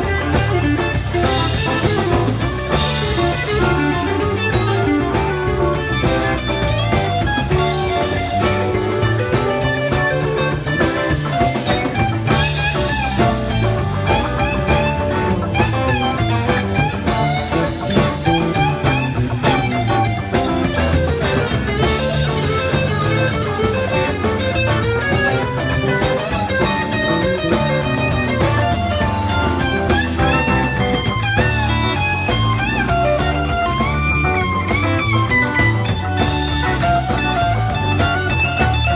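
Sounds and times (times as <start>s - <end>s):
bending guitar lines: 0.0s - 38.9s
rock band playing: 0.0s - 38.9s.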